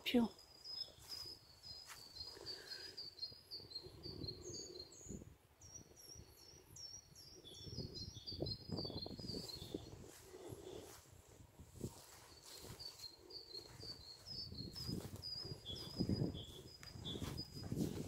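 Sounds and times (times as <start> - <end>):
small bird chirping: 0.0 - 10.9, 11.8 - 18.0.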